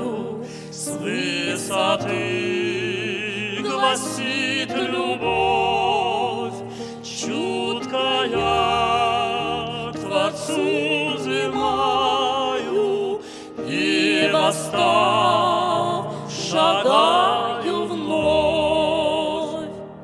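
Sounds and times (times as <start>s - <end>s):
voices singing with vibrato: 0.0s - 20.0s.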